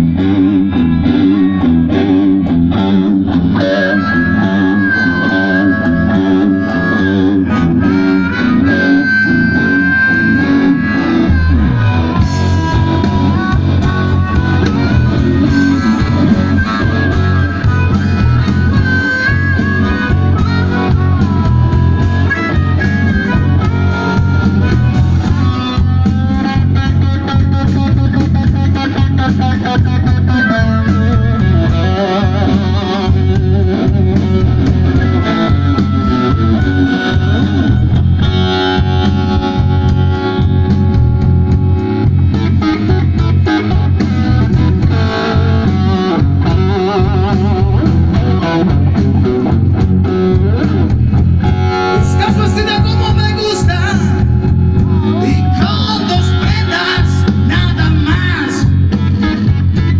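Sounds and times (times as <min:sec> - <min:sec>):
amplified harmonica lead: 0:00.0 - 0:59.9
electric guitar: 0:00.0 - 0:59.9
drums with steady beat: 0:05.2 - 0:59.9.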